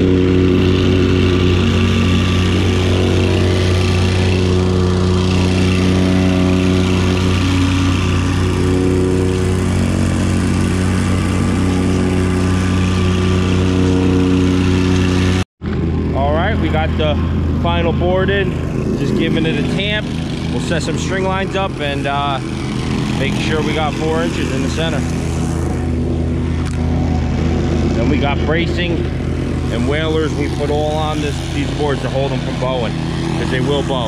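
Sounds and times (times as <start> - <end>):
plate compactor running: 0.0 - 34.0.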